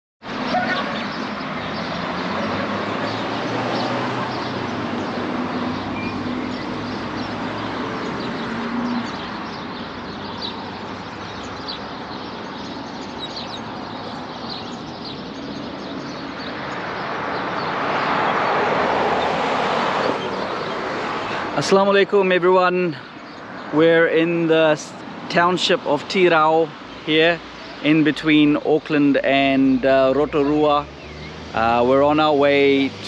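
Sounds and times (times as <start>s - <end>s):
traffic passing: 0.2s - 33.0s
small birds chirping: 0.3s - 33.0s.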